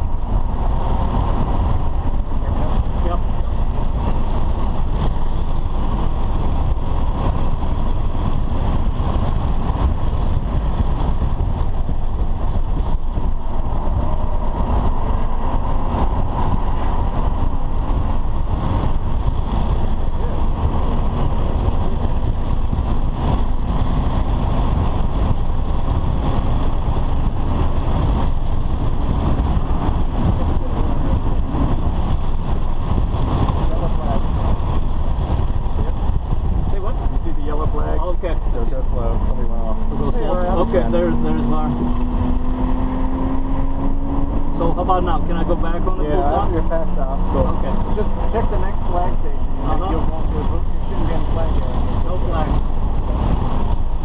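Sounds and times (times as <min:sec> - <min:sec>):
car engine under load: 0:00.0 - 0:54.0
road and wind noise: 0:00.0 - 0:54.0.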